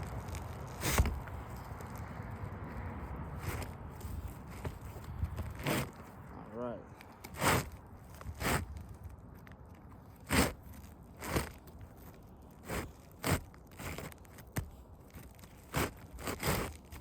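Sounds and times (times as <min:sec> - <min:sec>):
scraping on roofing shingles: 0:00.0 - 0:17.0.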